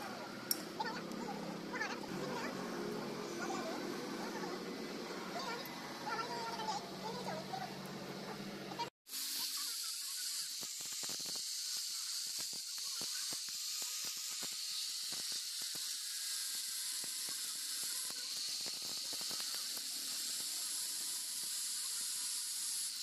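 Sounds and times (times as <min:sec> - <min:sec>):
angle grinder hissing: 0:00.0 - 0:23.0.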